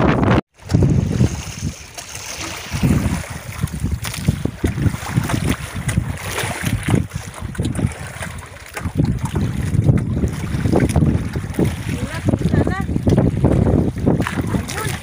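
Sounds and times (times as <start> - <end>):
water washing around boat: 0.0 - 15.0
wind buffeting microphone: 0.0 - 15.0.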